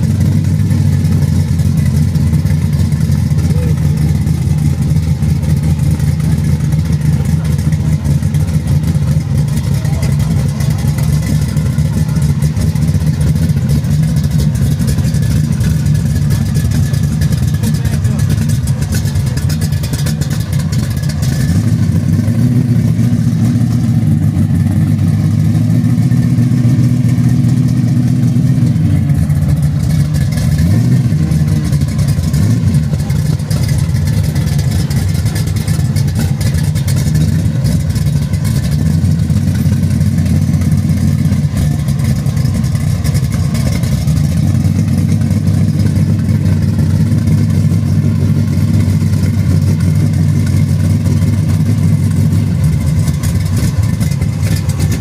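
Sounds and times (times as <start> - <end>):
low car engine note: 0.0 - 55.0.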